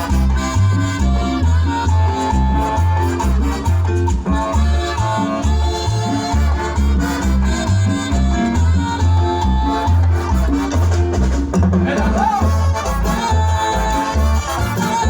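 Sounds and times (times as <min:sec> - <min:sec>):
maracas: 0:00.0 - 0:15.0
tropical dance band playing: 0:00.0 - 0:15.0.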